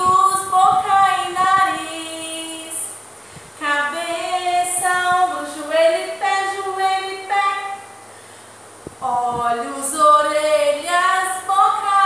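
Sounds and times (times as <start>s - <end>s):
woman singing children's song: 0.0s - 3.0s, 3.6s - 8.0s, 9.0s - 12.0s.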